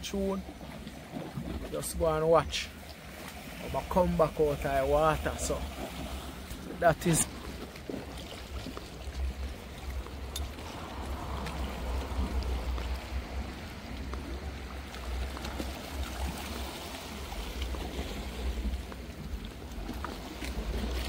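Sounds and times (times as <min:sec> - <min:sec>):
water splashing and trickling: 0:00.0 - 0:21.0
wind rumbling on microphone: 0:00.0 - 0:21.0.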